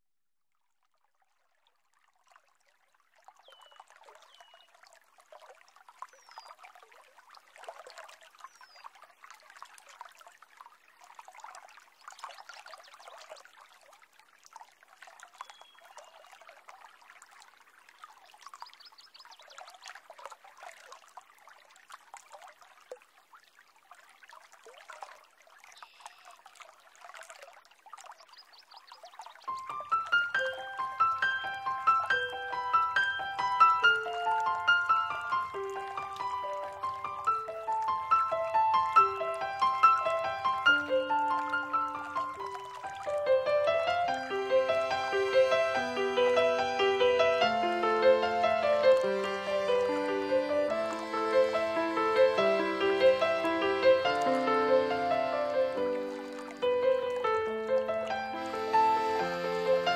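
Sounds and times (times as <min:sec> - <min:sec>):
water trickling and splashing: 0:00.5 - 0:59.9.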